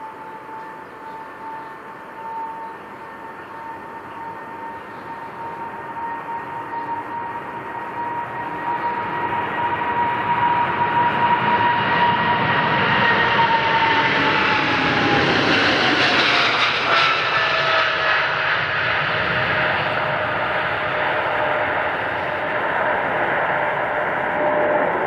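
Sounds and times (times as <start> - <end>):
jet airliner roaring past: 0.0 - 25.0.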